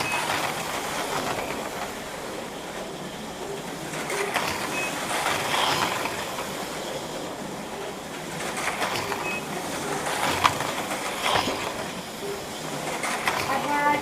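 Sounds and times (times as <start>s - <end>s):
slot cars whirring: 0.0s - 14.0s.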